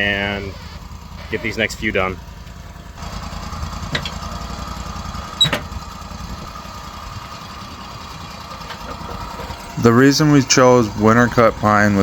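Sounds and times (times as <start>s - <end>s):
sawmill engine idling: 0.0s - 12.0s.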